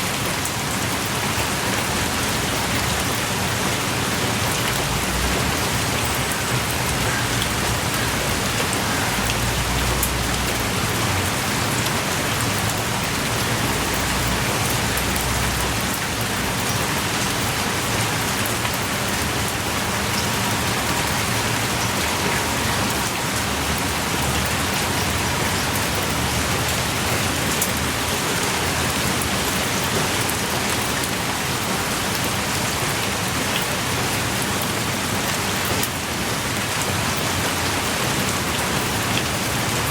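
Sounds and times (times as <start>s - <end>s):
heavy rain pouring: 0.0s - 39.9s
sharp raindrop ticks: 0.1s - 39.9s.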